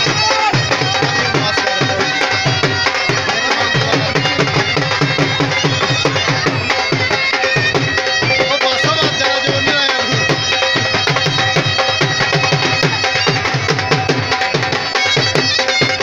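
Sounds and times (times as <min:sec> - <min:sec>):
drum beating fast rhythm: 0:00.0 - 0:16.0.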